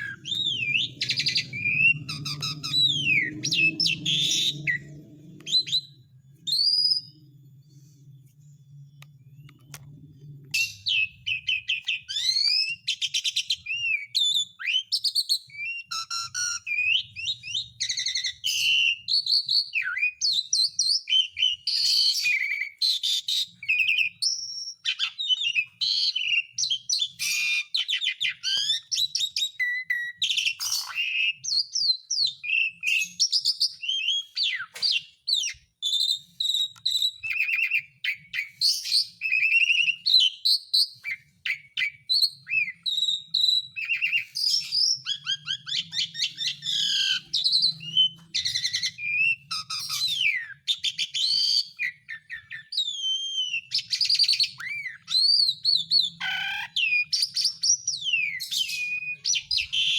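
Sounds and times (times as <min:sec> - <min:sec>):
starling singing whistles and chatter: 0:00.0 - 0:07.2, 0:10.5 - 0:59.9.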